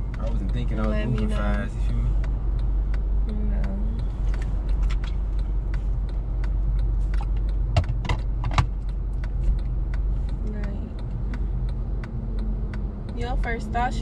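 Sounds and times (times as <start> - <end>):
car engine hum inside cabin: 0.0 - 14.0.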